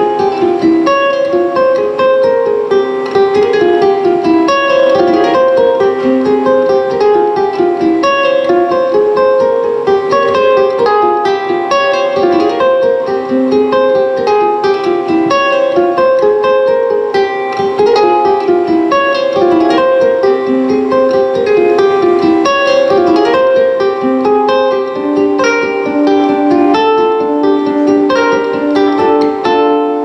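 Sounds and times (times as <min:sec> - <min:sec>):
plucked string instrument run: 0:00.0 - 0:30.0.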